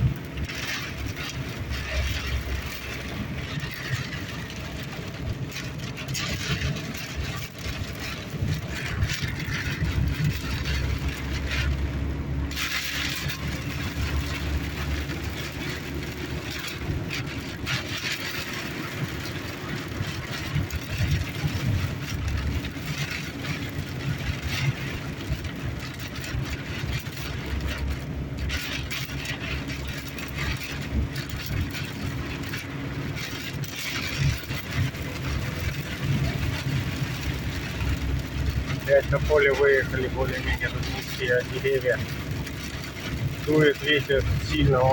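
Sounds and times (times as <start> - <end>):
engine and road rumble: 0.0 - 44.9.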